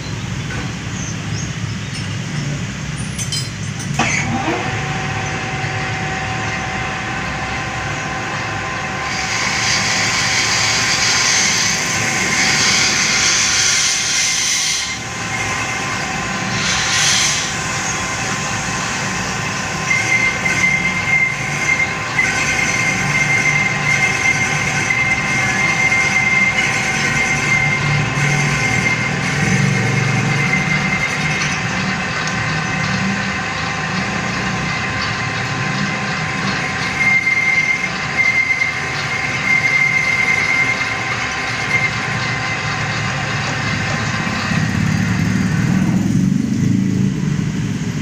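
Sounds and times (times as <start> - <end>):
metal lathe whine: 0.9 - 48.0
high steady squeal: 1.0 - 48.0
metallic scraping squeal: 1.9 - 46.3.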